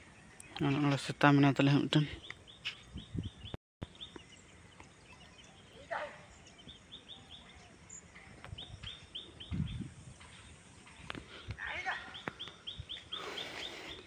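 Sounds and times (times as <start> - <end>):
faint outdoor background noise: 0.0 - 14.0
small birds chirping: 0.0 - 14.0.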